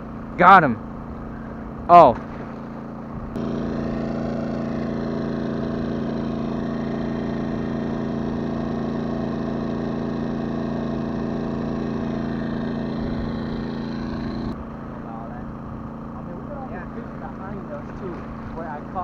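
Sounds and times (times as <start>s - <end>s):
engine idling: 2.6s - 19.0s.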